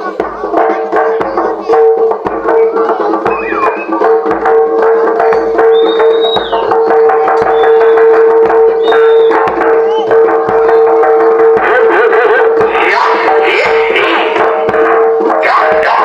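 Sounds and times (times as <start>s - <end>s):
drums and percussion strokes: 0.0s - 16.0s.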